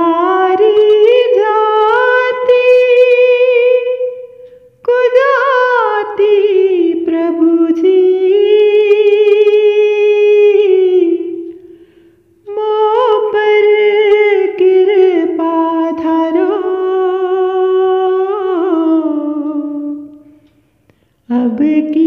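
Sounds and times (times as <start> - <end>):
person singing devotional song: 0.0 - 11.8, 12.4 - 22.0.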